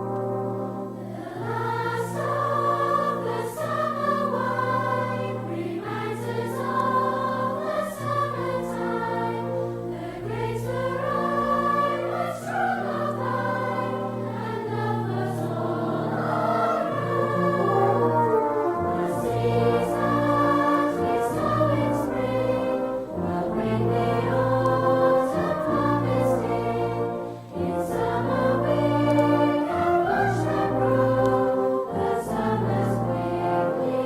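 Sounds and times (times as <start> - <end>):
choir singing in harmony: 0.0 - 34.0.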